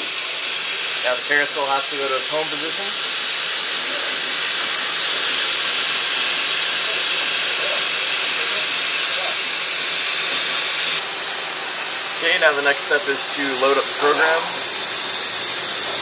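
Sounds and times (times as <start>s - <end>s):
steady hiss of air: 0.0s - 11.0s, 12.2s - 16.0s.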